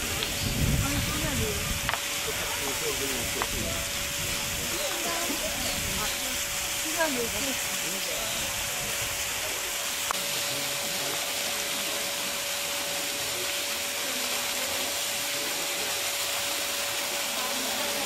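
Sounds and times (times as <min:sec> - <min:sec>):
faint voices: 0:00.0 - 0:18.0
steady hissing noise: 0:00.0 - 0:18.0.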